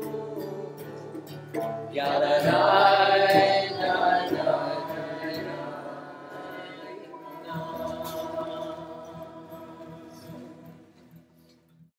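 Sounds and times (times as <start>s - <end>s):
voices singing a liturgical song: 0.0s - 11.3s.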